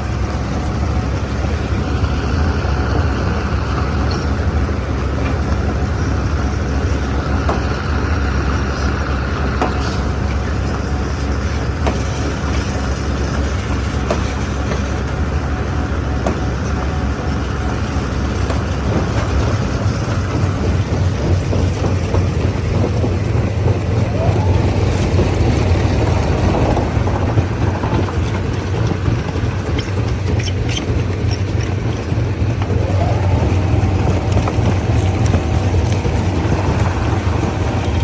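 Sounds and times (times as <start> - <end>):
stone crusher mechanical drone: 0.0 - 38.0.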